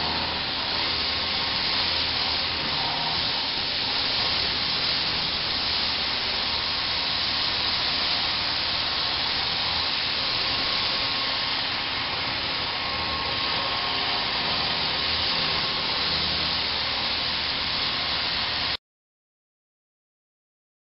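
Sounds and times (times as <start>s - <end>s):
milling cutter hissing through steel: 0.0s - 18.8s.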